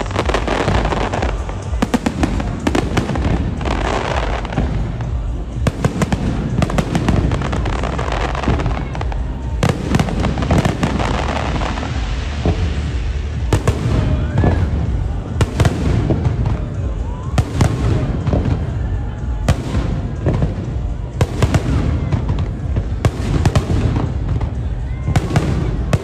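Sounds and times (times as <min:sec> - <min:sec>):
fireworks bangs and crackles: 0:00.0 - 0:26.0
low rumble: 0:00.0 - 0:26.0
music playing: 0:00.0 - 0:26.0.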